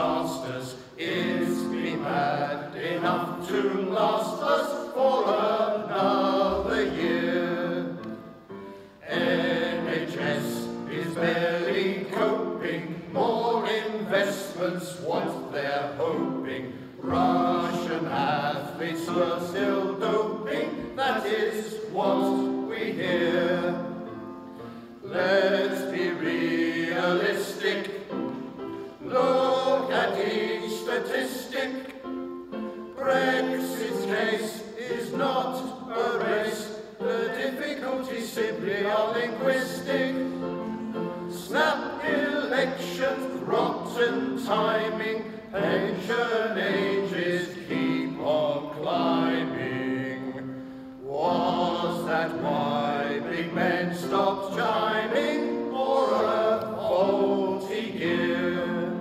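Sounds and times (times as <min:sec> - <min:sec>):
male choir singing: 0:00.0 - 0:08.2, 0:09.0 - 0:24.4, 0:25.0 - 0:59.0.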